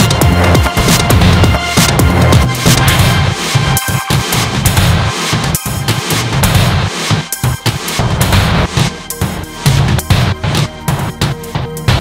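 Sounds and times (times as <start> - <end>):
electronic music with driving beat: 0.0 - 12.0.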